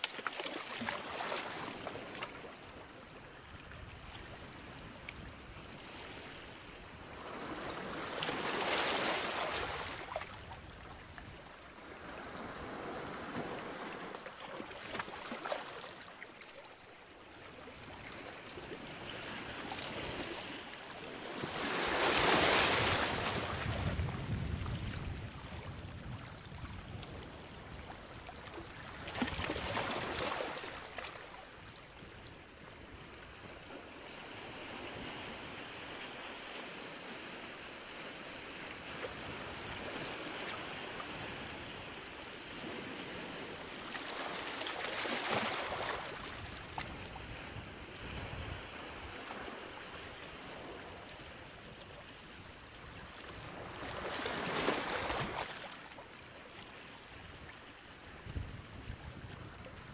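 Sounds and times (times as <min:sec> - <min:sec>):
sea waves breaking on shore: 0:00.0 - 0:59.9
soft wash of water: 0:00.0 - 0:59.9.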